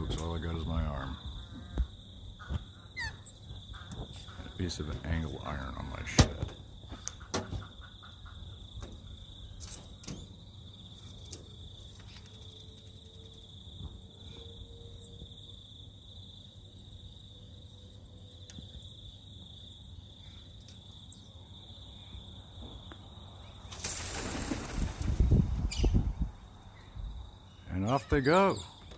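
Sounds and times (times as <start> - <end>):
insects trilling: 0.0 - 28.9.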